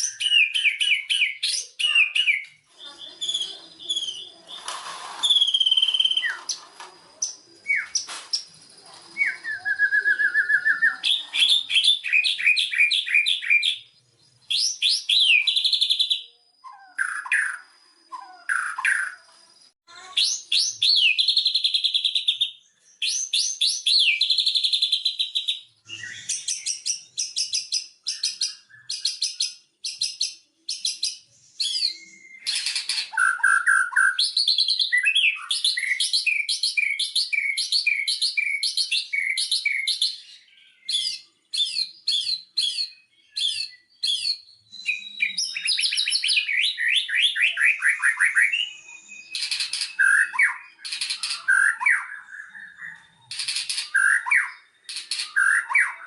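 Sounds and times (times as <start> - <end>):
bird singing varied song: 0.0 - 56.0.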